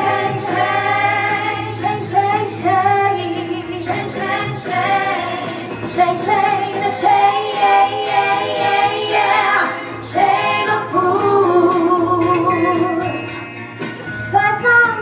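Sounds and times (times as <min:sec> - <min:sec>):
women singing into microphones: 0:00.0 - 0:13.4, 0:14.2 - 0:15.0.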